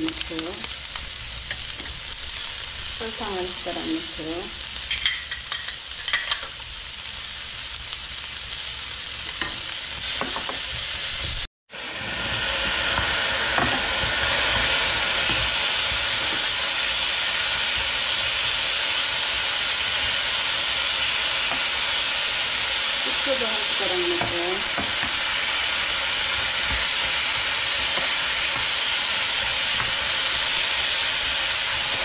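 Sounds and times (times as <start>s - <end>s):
sauce sizzling in frying pan: 0.0s - 32.0s.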